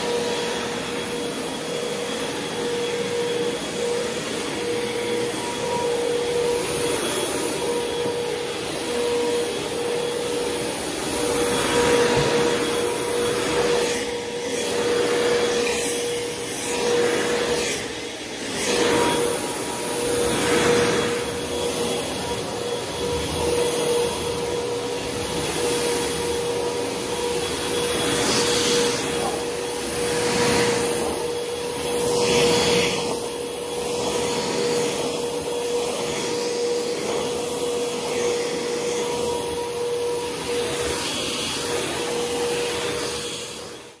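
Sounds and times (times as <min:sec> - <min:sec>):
vacuum cleaner motor whine: 0:00.0 - 0:44.0.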